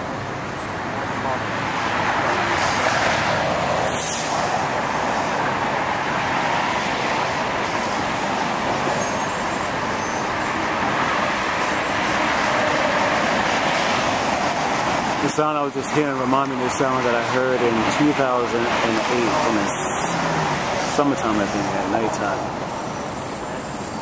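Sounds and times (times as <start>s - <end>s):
city traffic roar: 0.0s - 24.0s.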